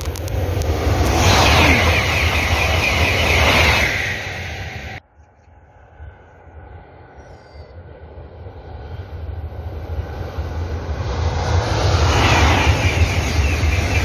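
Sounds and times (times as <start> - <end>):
high-speed train passing: 0.0 - 5.0, 6.2 - 14.0.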